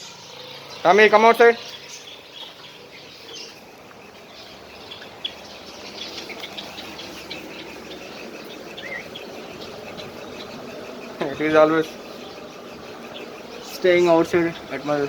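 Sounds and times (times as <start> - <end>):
cage birds chirping: 0.0 - 15.0
faint steady hum: 0.0 - 15.0.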